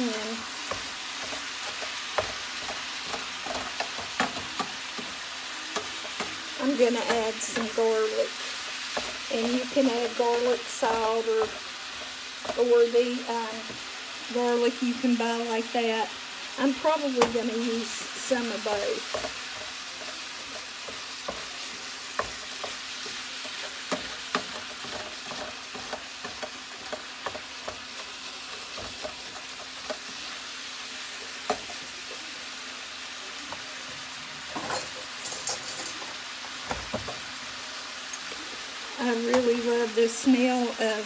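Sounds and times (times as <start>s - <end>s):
meat sizzling in a skillet: 0.0s - 41.0s.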